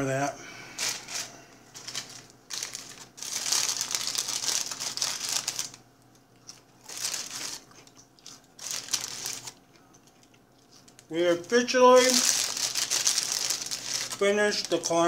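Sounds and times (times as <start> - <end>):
paper bag crinkling: 0.7 - 5.8, 6.5 - 9.6, 10.8 - 15.0.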